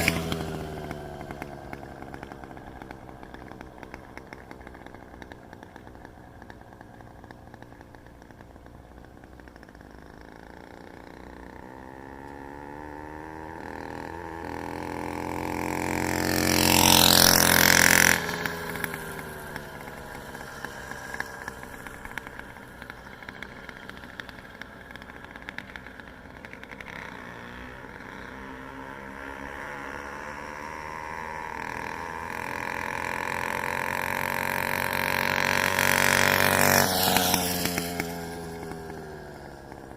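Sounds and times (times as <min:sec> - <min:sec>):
small engine passing by: 0:00.0 - 0:39.9.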